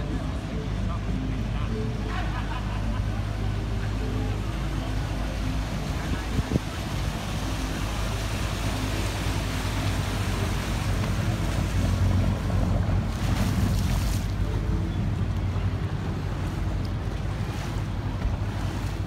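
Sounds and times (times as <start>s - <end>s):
motorboat engine running: 0.0s - 19.0s
water washing along hull: 0.0s - 19.0s.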